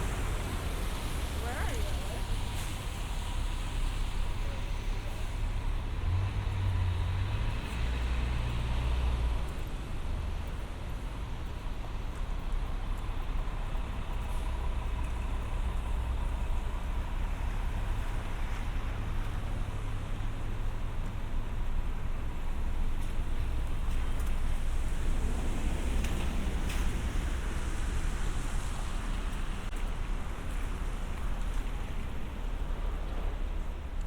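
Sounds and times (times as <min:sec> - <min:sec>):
passing cars: 0:00.0 - 0:34.0
trucks or buses passing: 0:00.0 - 0:34.0.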